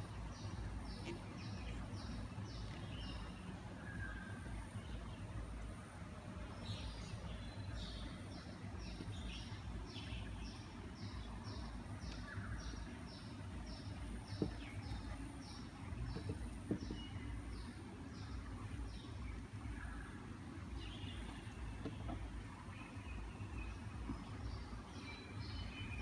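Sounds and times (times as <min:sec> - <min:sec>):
bird chirping: 0:00.0 - 0:26.0
low rumble of wind: 0:00.0 - 0:26.0.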